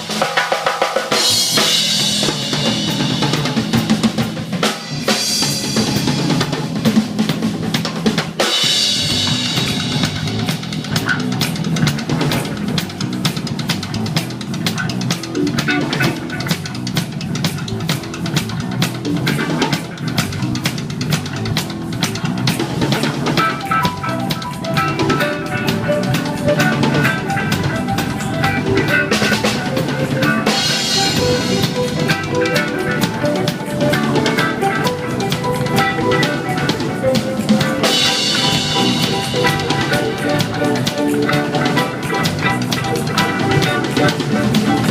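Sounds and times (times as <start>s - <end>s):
bass drum and snare: 0.0s - 44.9s
reggae dub band playing: 0.0s - 44.9s.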